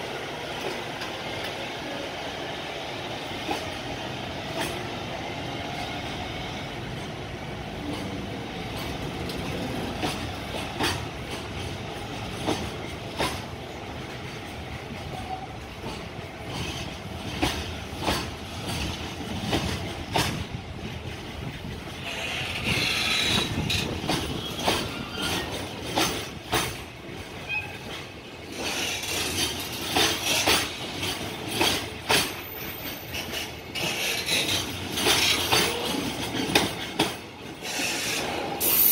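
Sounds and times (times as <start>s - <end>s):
train wheels rumbling on rail: 0.0s - 38.9s
wheels clicking over rail joints: 6.8s - 38.9s.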